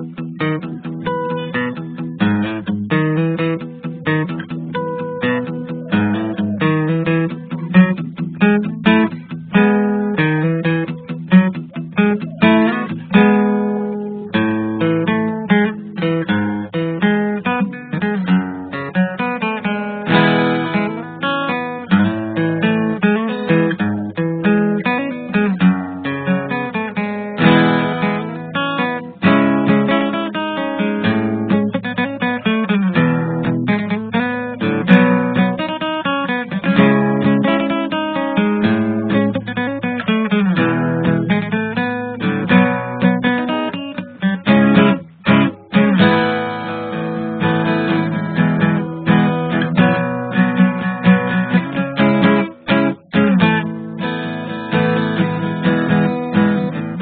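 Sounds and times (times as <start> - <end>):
acoustic guitar music: 0.0 - 57.0.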